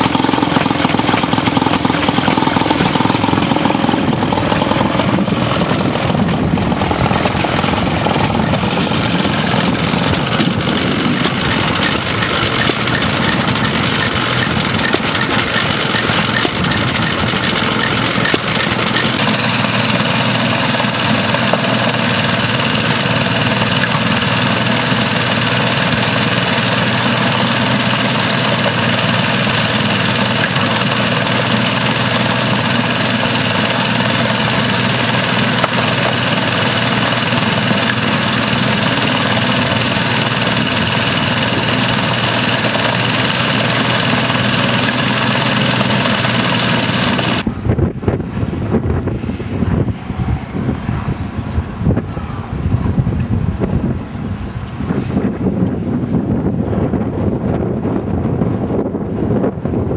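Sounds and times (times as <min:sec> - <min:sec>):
stationary engine running: 0:00.0 - 0:50.1
small pumping engine running: 0:00.0 - 0:57.4
engine with steady low hum: 0:00.0 - 0:59.9.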